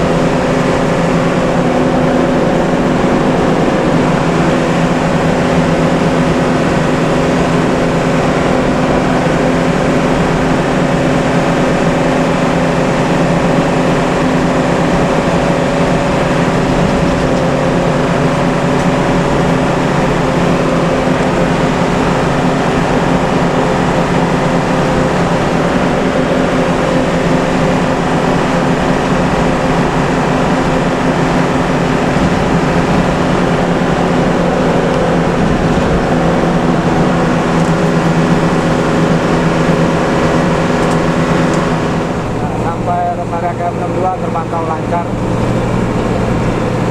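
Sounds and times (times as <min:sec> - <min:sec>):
bus engine running: 0:00.0 - 0:46.9
tyre and road noise: 0:00.0 - 0:46.9.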